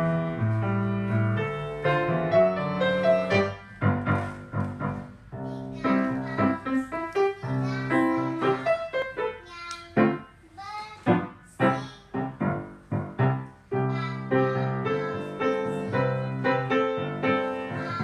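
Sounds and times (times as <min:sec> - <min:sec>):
piano playing chords: 0:00.0 - 0:10.4, 0:11.1 - 0:18.0.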